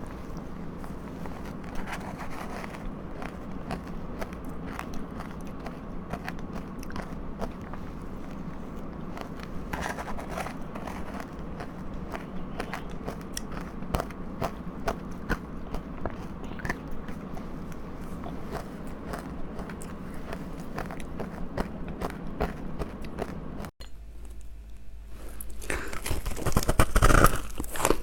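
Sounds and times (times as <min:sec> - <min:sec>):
person chewing powdery ice: 0:00.0 - 0:23.7, 0:25.3 - 0:28.0.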